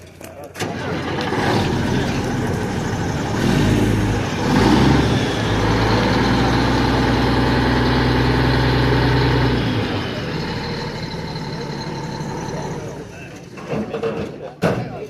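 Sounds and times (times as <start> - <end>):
diesel truck engine revving and idling: 0.6 - 13.4.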